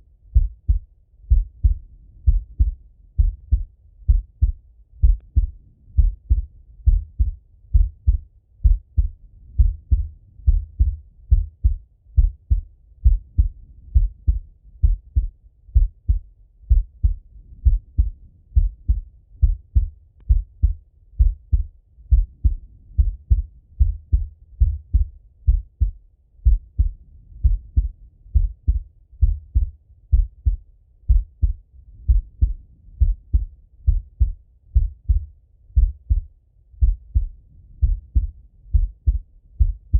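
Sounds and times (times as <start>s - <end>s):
heartbeat through stethoscope: 0.3s - 39.9s.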